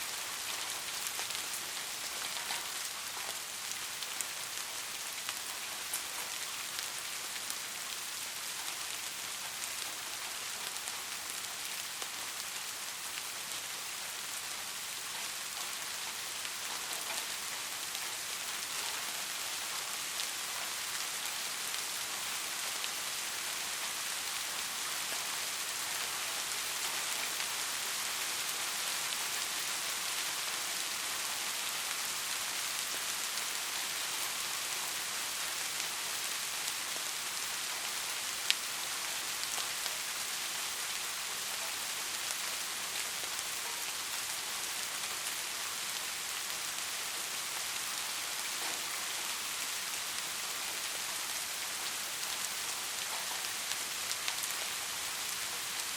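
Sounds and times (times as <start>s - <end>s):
patter of raindrops: 0.0s - 55.9s
rain hissing on surfaces: 0.0s - 55.9s.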